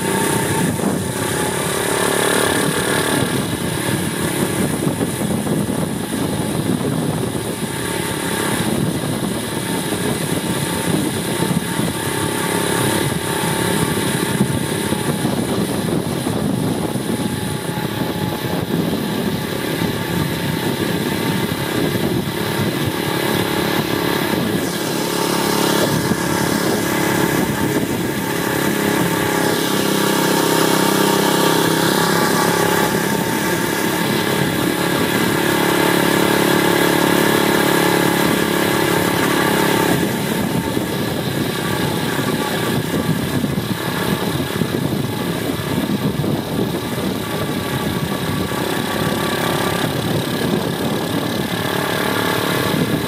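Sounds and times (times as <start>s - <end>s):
motorbike engine running: 0.0s - 53.0s.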